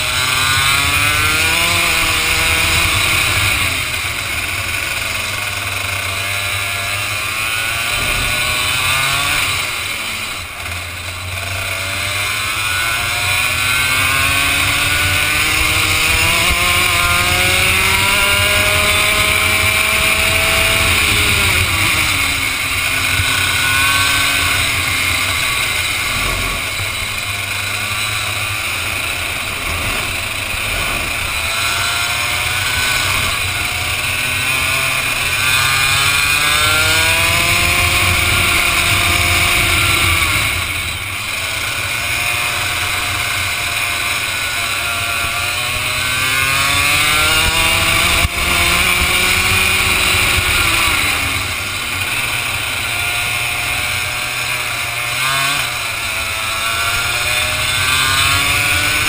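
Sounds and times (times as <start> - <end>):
kart engine at speed: 0.0 - 59.0.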